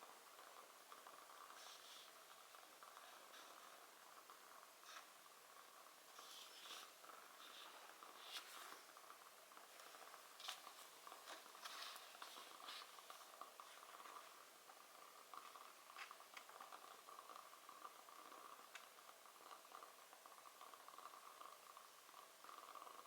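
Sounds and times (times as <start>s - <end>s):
wood fire crackling: 0.2s - 20.0s.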